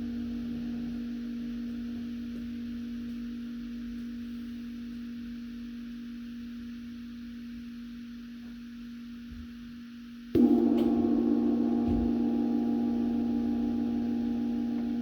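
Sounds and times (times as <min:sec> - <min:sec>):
cymbal ringing: 0:00.0 - 0:08.2, 0:10.3 - 0:15.0.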